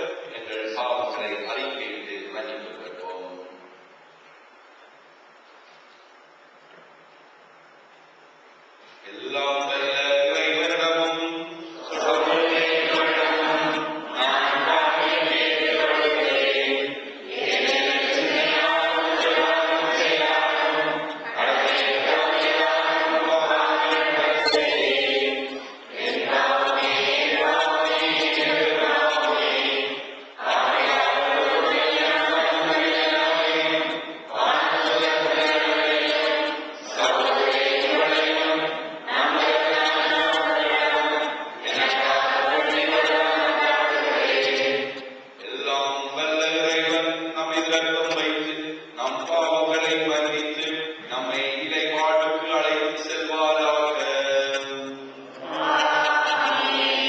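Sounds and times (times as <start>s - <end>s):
choir and congregation chanting: 0.0s - 3.5s, 9.0s - 57.0s.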